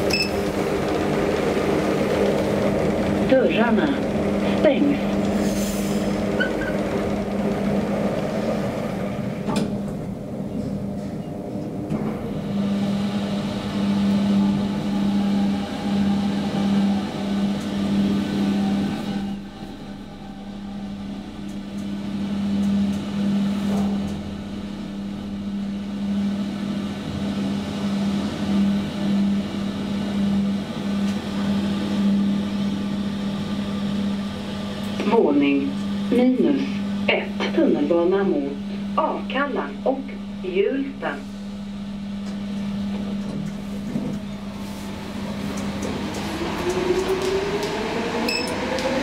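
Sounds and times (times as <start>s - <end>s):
machine hum: 0.0s - 49.0s.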